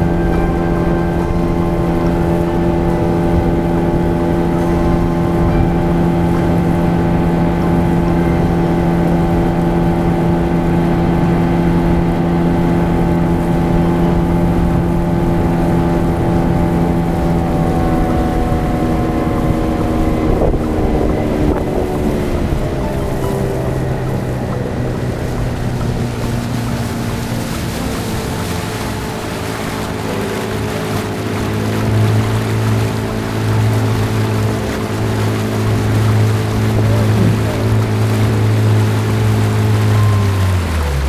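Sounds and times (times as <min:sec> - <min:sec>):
motorboat engine running: 0:00.0 - 0:41.0
wind on microphone: 0:00.0 - 0:41.0.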